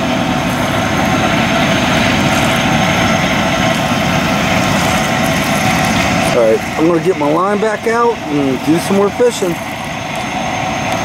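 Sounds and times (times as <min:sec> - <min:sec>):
boat diesel engines droning: 0:00.0 - 0:11.0.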